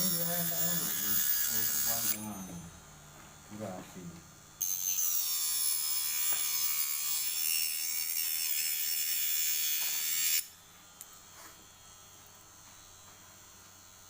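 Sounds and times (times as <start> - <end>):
small electric motor whining: 0.0 - 2.8, 4.5 - 14.0.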